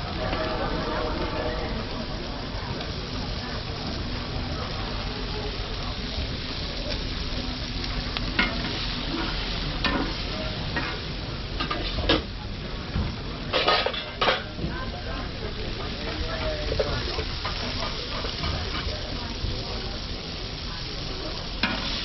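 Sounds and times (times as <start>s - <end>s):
meat sizzling on a griddle: 0.0s - 22.0s.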